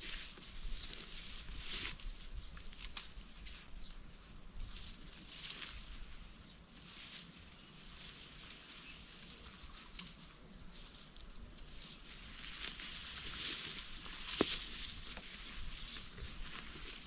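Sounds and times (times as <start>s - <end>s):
dry grass rustling: 0.0s - 17.0s.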